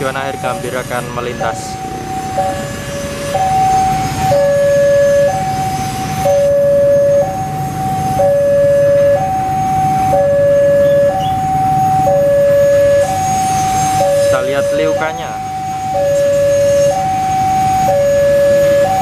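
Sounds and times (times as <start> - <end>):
level crossing alarm two-tone: 0.0 - 19.0.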